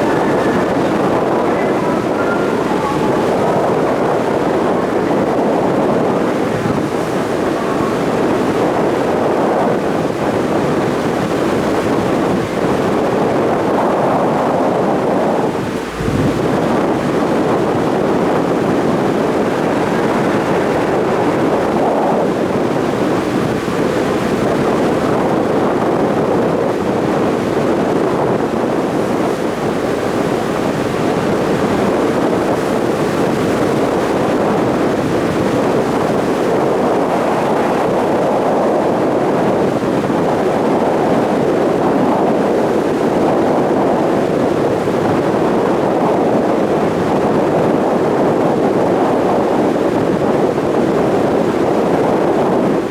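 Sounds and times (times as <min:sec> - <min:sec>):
rush of wind and water: 0:00.0 - 0:52.9
wind buffeting microphone: 0:00.0 - 0:52.9.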